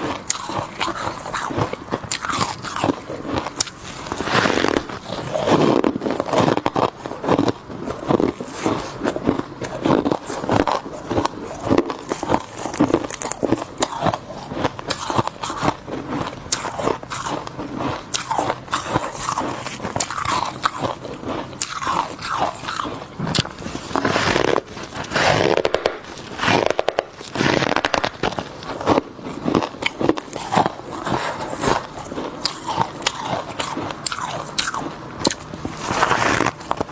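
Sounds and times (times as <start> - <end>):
person chewing ice crunches: 0.0 - 36.9.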